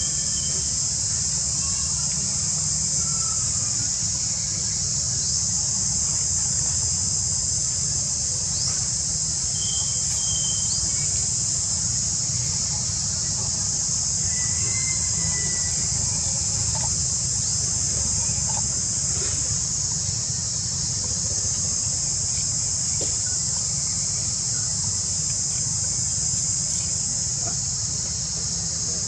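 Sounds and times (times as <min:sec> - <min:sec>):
insect chorus droning: 0:00.0 - 0:29.0
low steady rumble: 0:00.0 - 0:29.0.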